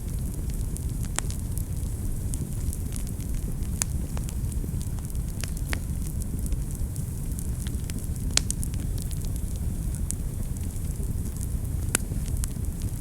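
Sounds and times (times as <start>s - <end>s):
low rumble of fire flames: 0.0s - 13.0s
wood fire crackles and pops: 0.0s - 13.0s.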